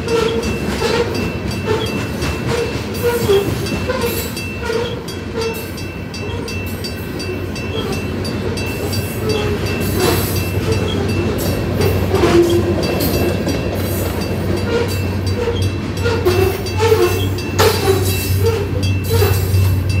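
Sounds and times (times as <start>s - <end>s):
crossing bell ringing: 0.0s - 20.0s
freight train wheels clacking: 0.0s - 20.0s.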